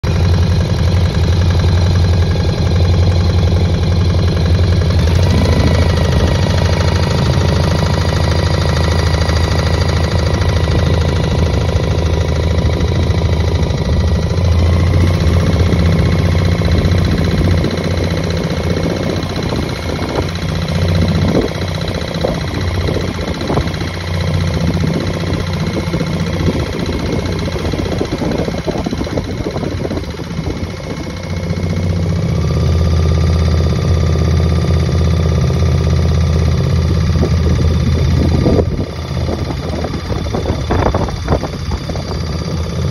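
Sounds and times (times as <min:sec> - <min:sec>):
boat engine droning: 0:00.0 - 0:42.9.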